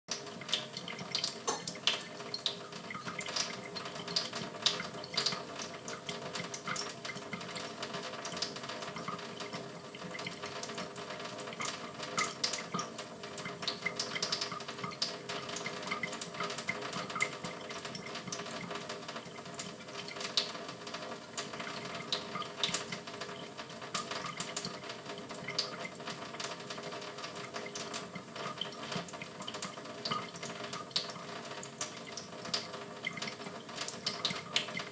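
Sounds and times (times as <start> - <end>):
tap water running into sink: 0.1 - 34.9.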